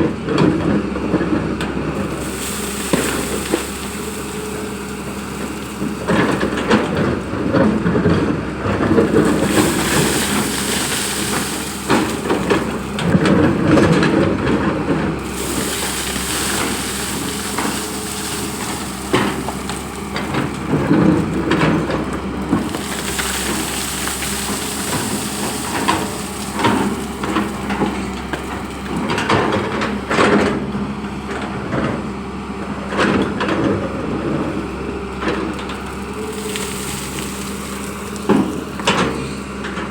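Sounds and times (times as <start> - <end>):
excavator engine running: 0.0 - 39.9
bucket crunching and scraping soil: 1.5 - 30.3, 34.0 - 39.9.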